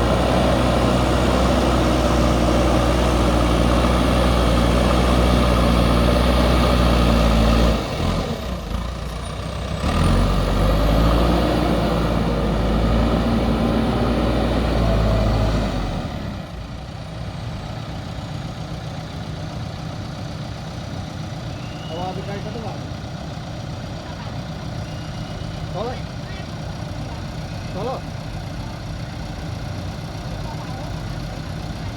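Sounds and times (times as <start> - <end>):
diesel engine under load: 0.0 - 31.9.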